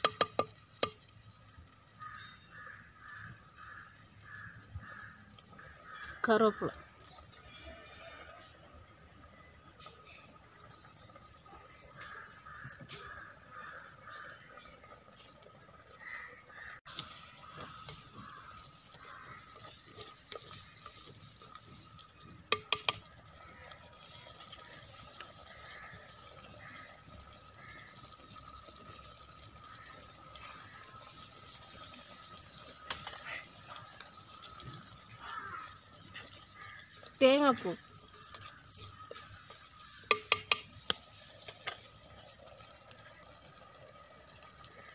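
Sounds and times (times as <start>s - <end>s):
thick stew bubbling: 0.0s - 44.9s.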